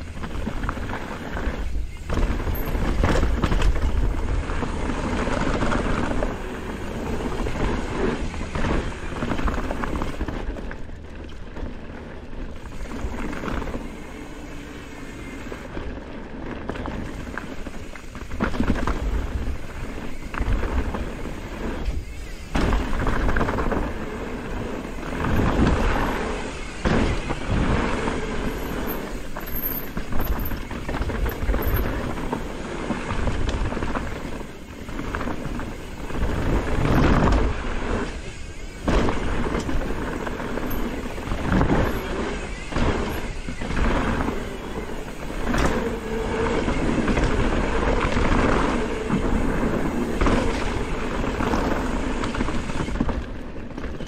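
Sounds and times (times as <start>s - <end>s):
bike tyre roar and rattle: 0.0s - 54.0s
wind buffeting microphone: 0.0s - 54.0s.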